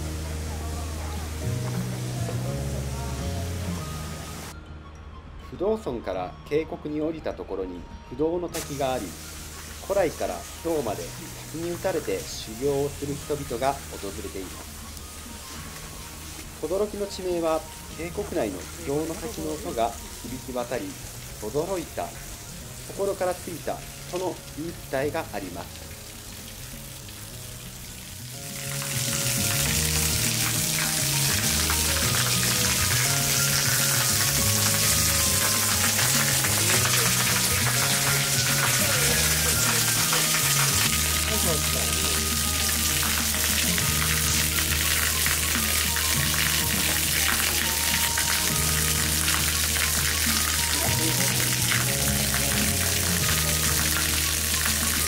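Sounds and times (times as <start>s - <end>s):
low background music: 0.0s - 55.0s
waterfall spattering onto stones: 8.6s - 55.0s.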